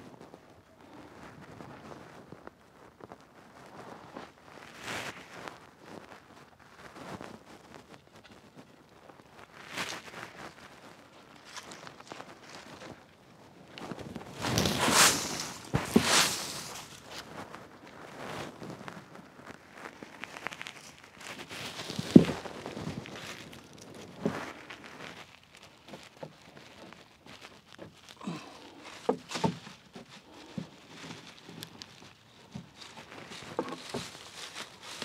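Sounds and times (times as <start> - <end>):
hands rustling and scraping plywood: 0.0 - 35.0.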